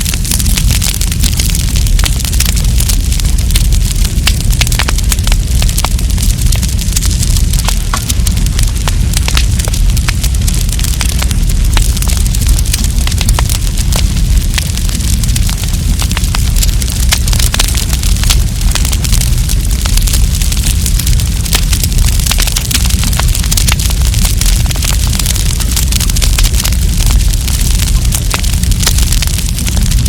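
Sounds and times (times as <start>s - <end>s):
campfire crackling and popping: 0.0s - 30.0s
low rumble of flames: 0.0s - 30.0s.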